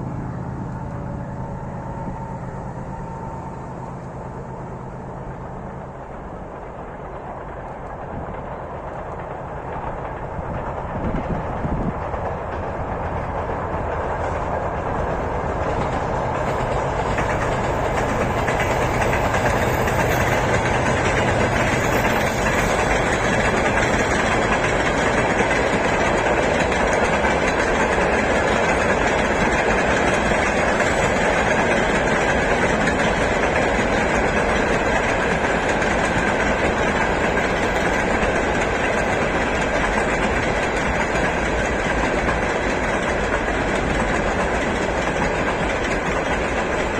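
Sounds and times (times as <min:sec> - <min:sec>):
train rumbling on rails: 0:00.0 - 0:46.9.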